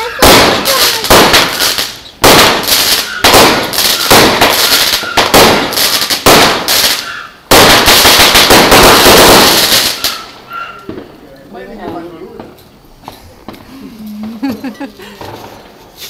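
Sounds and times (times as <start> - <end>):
fireworks bangs: 0.0 - 13.7
fireworks crackling: 0.0 - 16.0.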